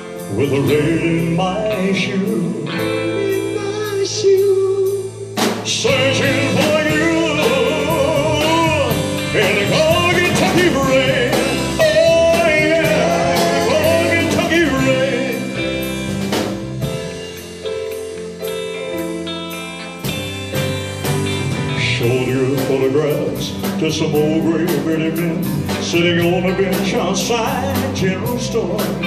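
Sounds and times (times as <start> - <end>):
rock band playing ballad: 0.0 - 29.0.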